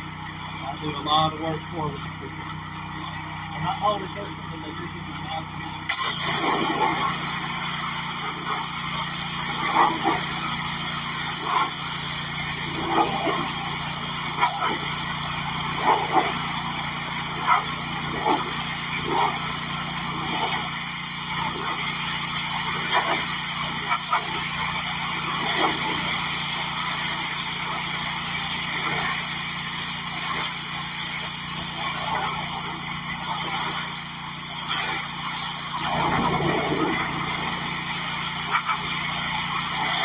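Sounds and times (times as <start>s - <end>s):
lawn mower engine running: 0.0s - 40.0s.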